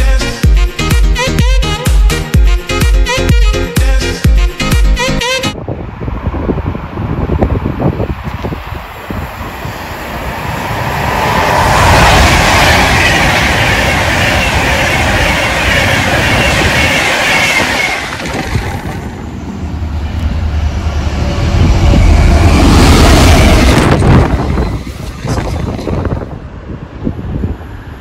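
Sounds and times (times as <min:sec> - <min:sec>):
train passing at speed: 0:05.5 - 0:28.0.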